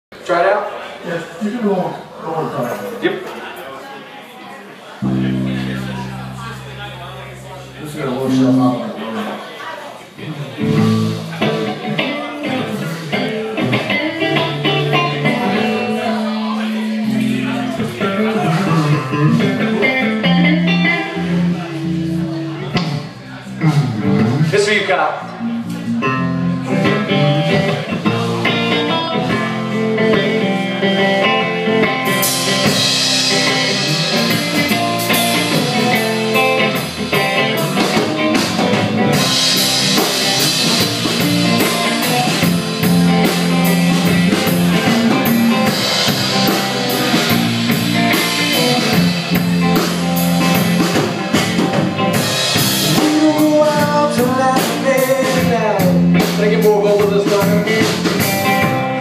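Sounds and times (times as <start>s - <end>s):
drum kit: 5.0s - 8.8s, 10.6s - 24.7s, 25.5s - 59.0s
electric guitar: 5.0s - 9.3s, 10.2s - 59.0s.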